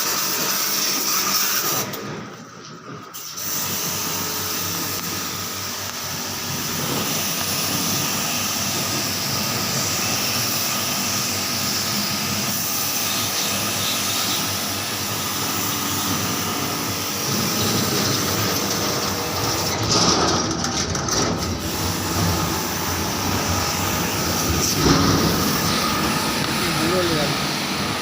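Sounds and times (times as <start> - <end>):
machine running with loud hiss: 0.0 - 28.0.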